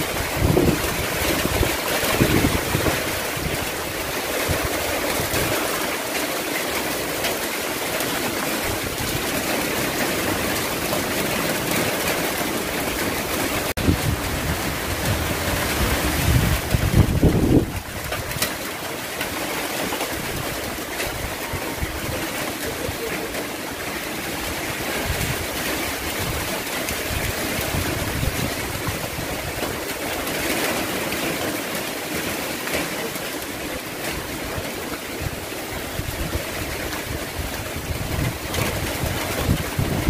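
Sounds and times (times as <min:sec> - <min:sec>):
heavy rain hissing: 0:00.0 - 0:40.0
wind: 0:00.0 - 0:40.0.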